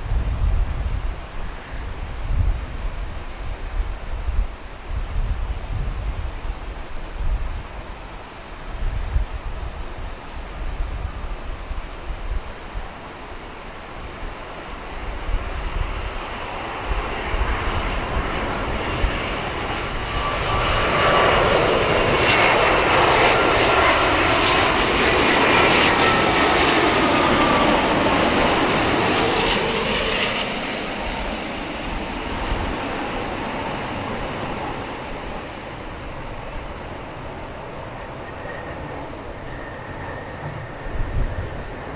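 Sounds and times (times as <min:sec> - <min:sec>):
jet airliner passing: 0:00.0 - 0:41.9.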